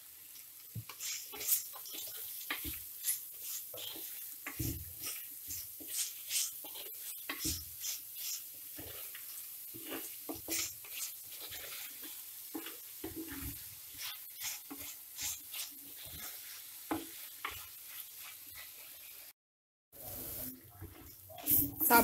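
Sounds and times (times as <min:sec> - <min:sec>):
faint oil sizzle: 0:00.0 - 0:19.4, 0:20.0 - 0:22.0
wooden spatula scraping pot: 0:00.8 - 0:19.3, 0:20.6 - 0:22.0.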